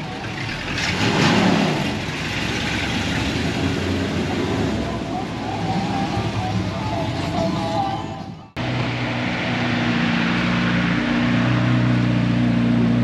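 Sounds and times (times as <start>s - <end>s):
following car drone: 0.0s - 13.0s.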